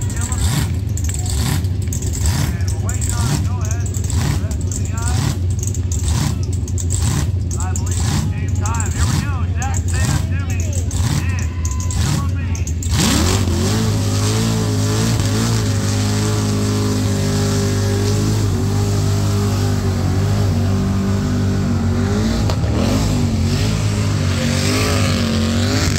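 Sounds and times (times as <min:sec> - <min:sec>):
car engine revving high: 0:00.0 - 0:25.9.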